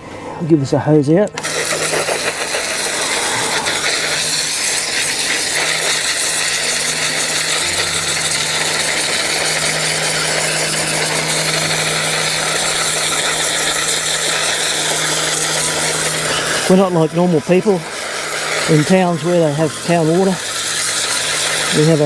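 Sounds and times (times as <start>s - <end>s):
steady low hum: 0.0s - 22.0s
hose water spraying: 1.4s - 22.0s.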